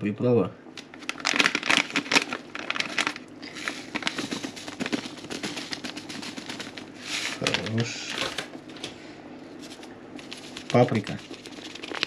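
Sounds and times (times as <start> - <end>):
foil packet crinkling: 0.8 - 8.9, 9.6 - 12.0.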